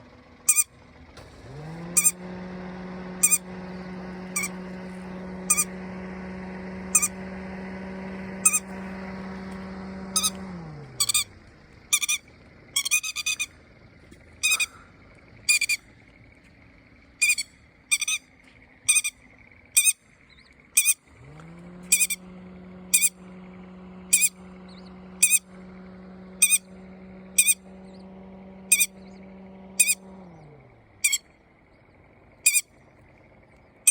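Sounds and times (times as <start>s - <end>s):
low hum: 0.0s - 33.9s
bird high sharp calls: 0.4s - 0.8s, 1.8s - 2.2s, 3.1s - 13.6s, 14.2s - 21.1s, 21.8s - 33.9s.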